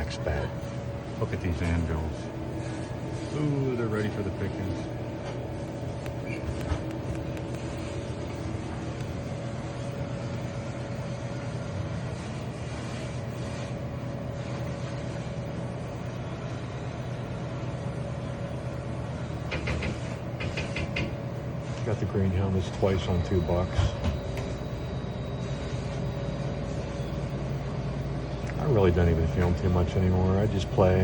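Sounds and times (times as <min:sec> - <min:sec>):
low room hum and rumble: 0:00.0 - 0:31.0.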